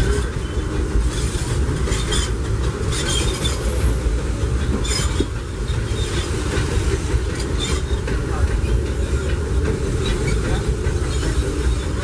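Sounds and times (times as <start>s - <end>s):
train wheels rumbling on track: 0.0s - 12.0s
wheels clicking and clattering: 0.0s - 12.0s.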